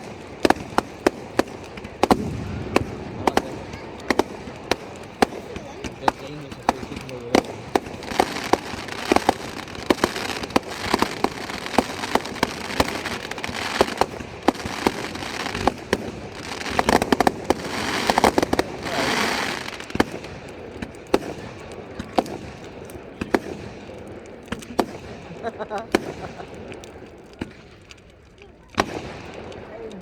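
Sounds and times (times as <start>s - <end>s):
fireworks hissing: 0.0s - 27.6s
fireworks bangs and crackles: 0.0s - 30.0s.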